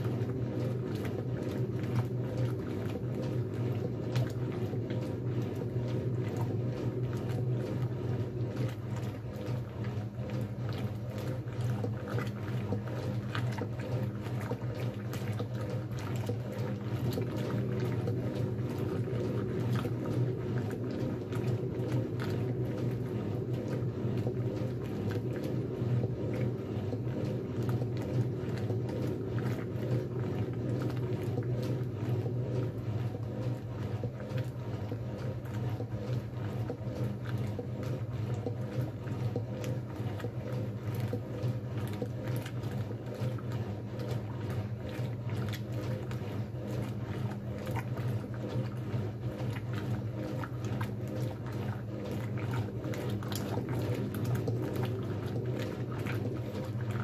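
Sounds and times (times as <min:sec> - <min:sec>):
washing machine motor hum: 0:00.0 - 0:57.0
water sloshing and splashing: 0:00.0 - 0:57.0.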